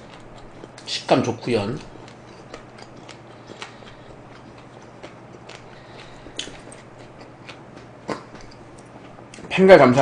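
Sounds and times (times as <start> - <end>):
chewing with mouth clicks: 0.0 - 9.5.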